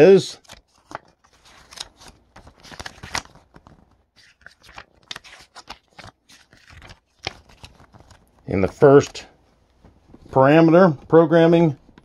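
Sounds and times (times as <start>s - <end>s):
paper pages turning and rustling: 0.0s - 12.0s.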